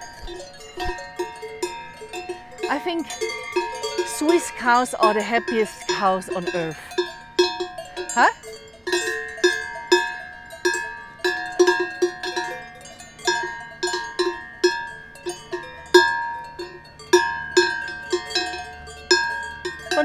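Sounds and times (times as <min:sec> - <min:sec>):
cowbells clanking: 0:00.0 - 0:20.0.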